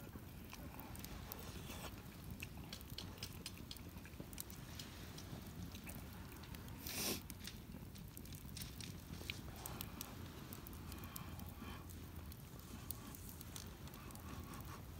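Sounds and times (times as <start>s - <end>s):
campfire crackling and popping: 0.0s - 14.9s.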